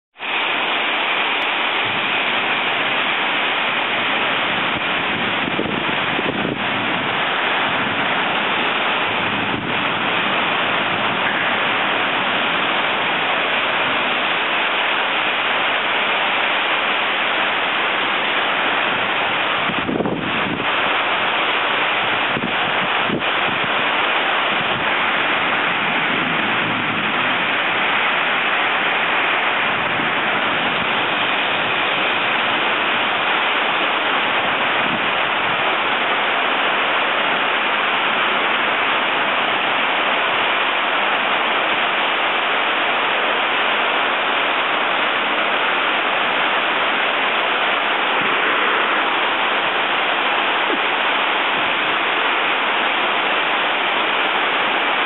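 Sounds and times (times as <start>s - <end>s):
heavy rain pouring: 0.1s - 55.0s.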